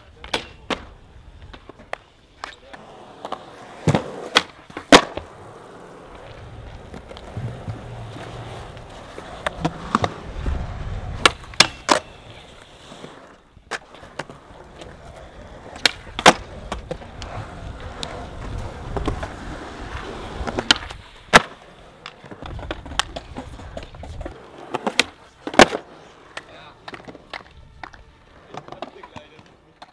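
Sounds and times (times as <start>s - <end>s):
skateboard clacks: 0.0s - 29.9s
skateboard wheels rolling on concrete: 0.0s - 29.9s.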